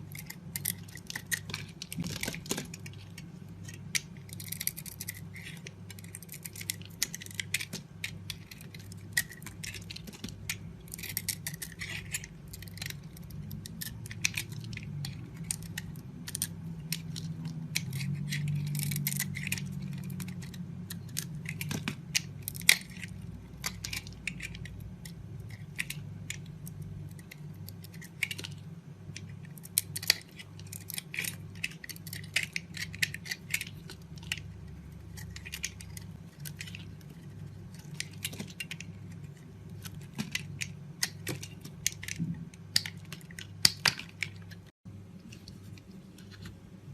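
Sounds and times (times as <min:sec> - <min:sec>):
knife cutting soap crackling: 0:00.0 - 0:46.6
low steady hum: 0:00.0 - 0:46.9.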